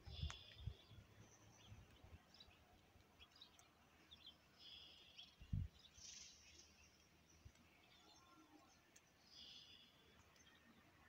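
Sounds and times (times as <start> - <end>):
faint bird chirps: 0.0 - 2.6, 3.2 - 10.7.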